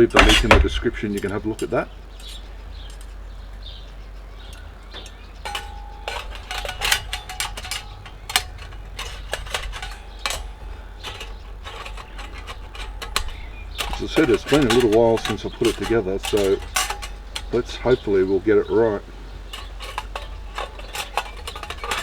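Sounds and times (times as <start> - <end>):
metal panels clicking and clanking: 0.0 - 22.0.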